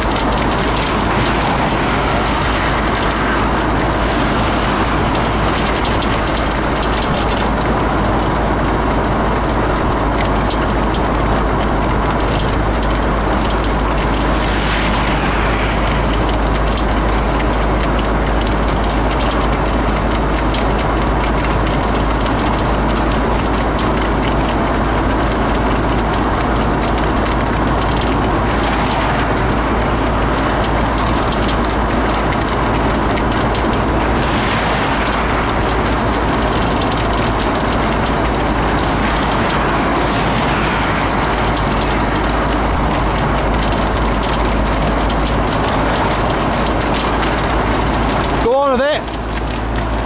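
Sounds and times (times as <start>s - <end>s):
horses' hooves trotting on tarmac: 0.0s - 50.0s
wind and road noise: 0.0s - 50.0s.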